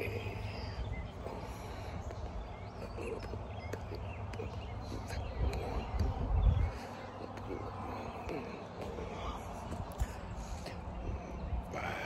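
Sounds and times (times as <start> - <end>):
bird chirping: 0.0 - 12.0
steady low rumble: 0.0 - 12.0.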